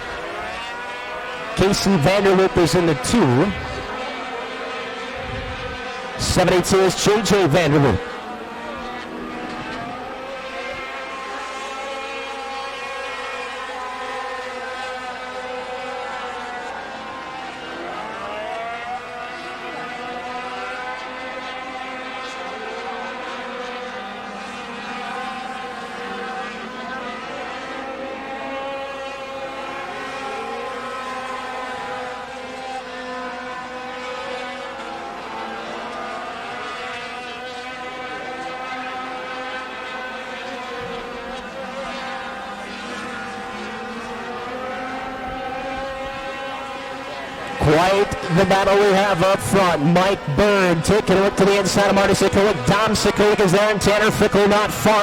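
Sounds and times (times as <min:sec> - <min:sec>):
racing truck engines: 0:00.0 - 0:55.0.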